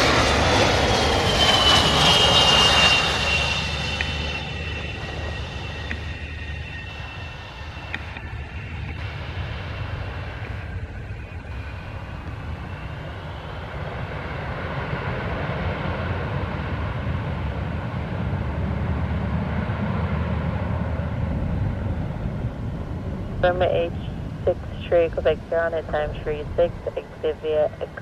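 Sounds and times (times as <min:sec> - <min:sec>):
aircraft engine running: 0:00.0 - 0:28.0.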